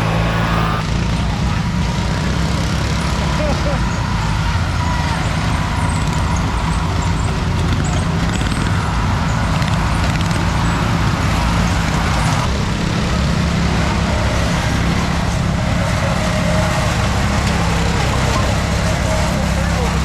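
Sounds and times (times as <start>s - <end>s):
riding lawn mower engine: 0.0s - 20.0s.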